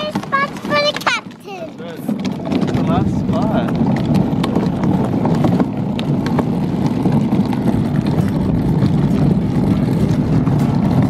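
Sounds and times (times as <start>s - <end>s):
plastic wheels rolling on asphalt: 0.0s - 11.0s.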